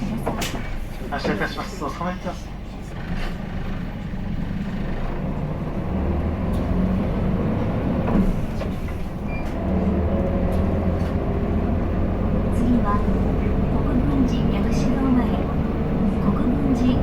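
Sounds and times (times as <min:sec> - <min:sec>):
bus diesel engine hum: 0:00.0 - 0:17.0.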